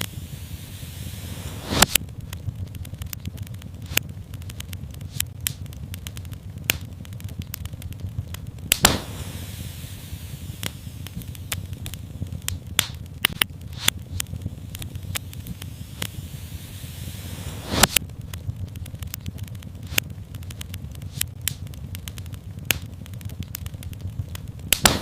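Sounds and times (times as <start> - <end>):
fire popping: 0.0 - 25.0
low rumble of flames: 0.0 - 25.0
wood fire crackling: 0.0 - 25.0.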